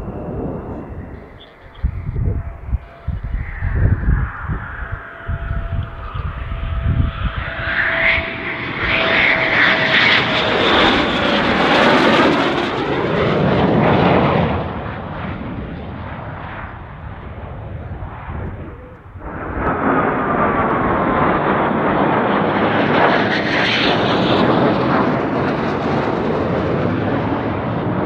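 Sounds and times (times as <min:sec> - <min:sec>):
jet roar with falling whine: 0:00.0 - 0:28.0.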